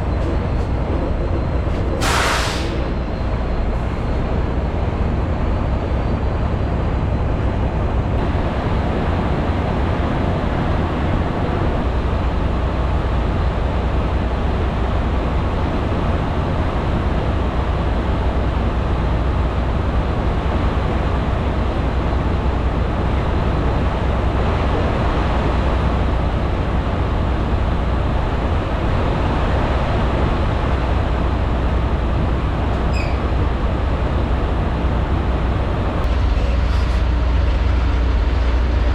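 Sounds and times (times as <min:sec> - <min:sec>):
diesel truck engine drone: 0:00.0 - 0:38.9
road noise: 0:00.0 - 0:38.9.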